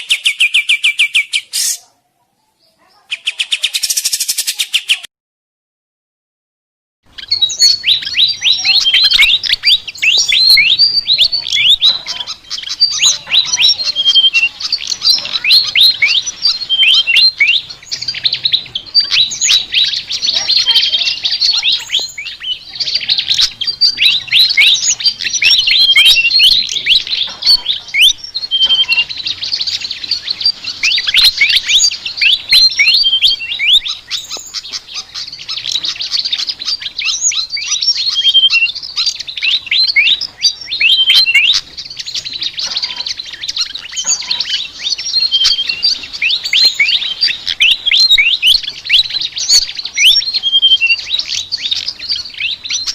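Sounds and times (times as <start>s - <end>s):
flycatcher chattering song: 0.0s - 1.9s, 2.9s - 5.1s, 7.1s - 52.9s.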